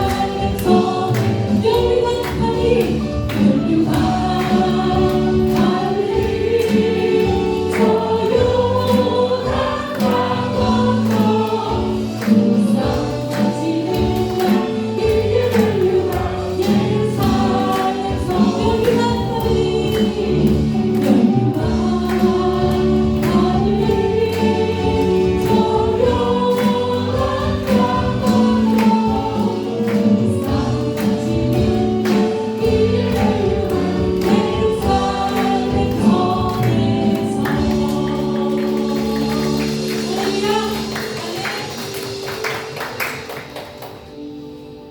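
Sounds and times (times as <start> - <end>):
band with steady beat: 0.0 - 42.8
congregation singing praise song: 0.0 - 44.1.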